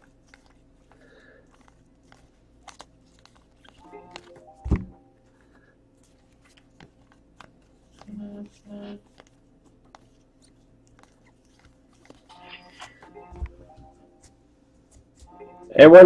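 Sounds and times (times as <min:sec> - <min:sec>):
trading cards being flipped: 0:00.0 - 0:15.5.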